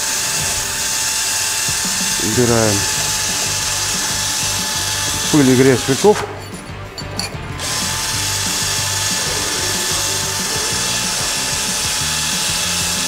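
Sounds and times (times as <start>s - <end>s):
background music: 0.0s - 13.0s
power drill running: 0.0s - 13.0s.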